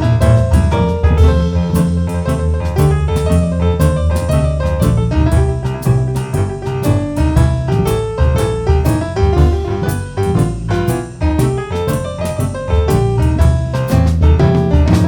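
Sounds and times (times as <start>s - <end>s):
boogie-woogie piano: 0.0s - 15.0s.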